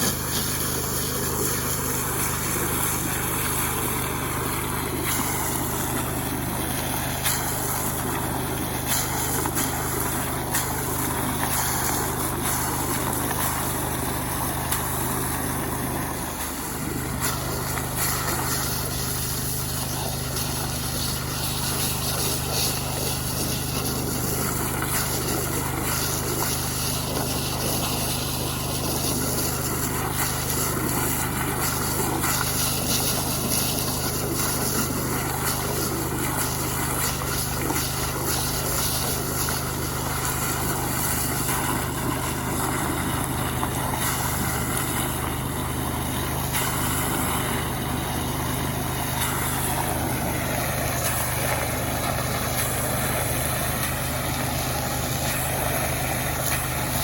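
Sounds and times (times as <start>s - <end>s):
small petrol engine running: 0.0s - 16.3s, 18.9s - 57.0s.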